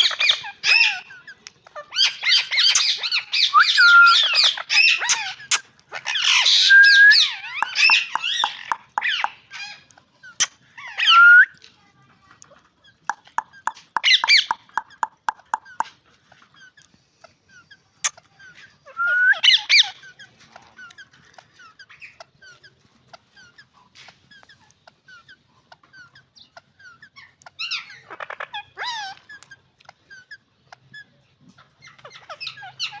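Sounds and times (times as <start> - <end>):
parakeets calling shrilly: 0.0 - 11.5, 12.8 - 16.8, 17.5 - 33.0.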